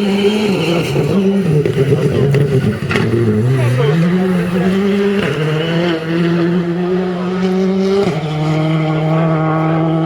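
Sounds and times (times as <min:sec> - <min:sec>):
car engine pulling hard: 0:00.0 - 0:10.0.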